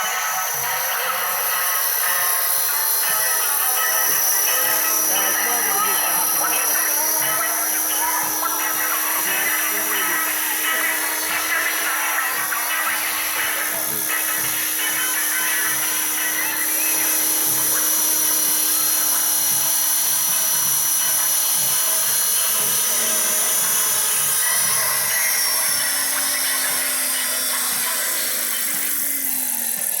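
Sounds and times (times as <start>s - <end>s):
model helicopter rotors whining: 0.0s - 30.0s.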